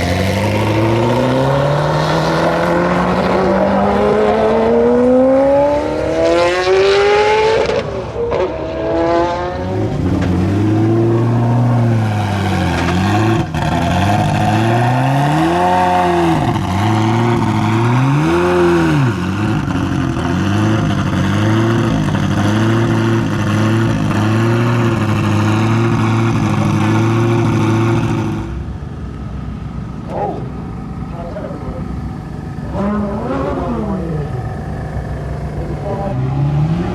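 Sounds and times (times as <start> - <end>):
sports car engine idling and revving: 0.0 - 36.9.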